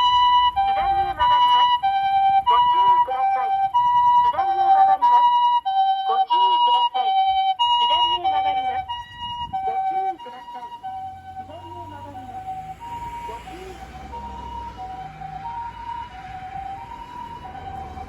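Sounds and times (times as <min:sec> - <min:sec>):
ambulance two-tone siren: 0:00.0 - 0:18.0.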